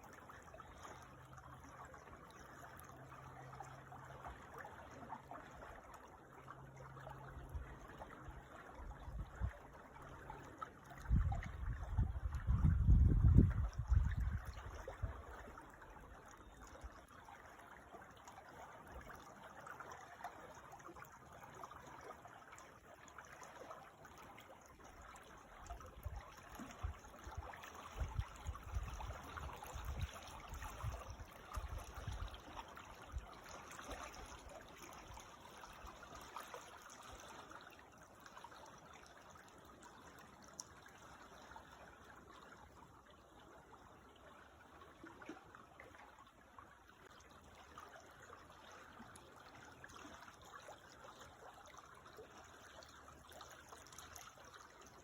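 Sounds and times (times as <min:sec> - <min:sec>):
creek trickling over stones: 0:00.0 - 0:55.0.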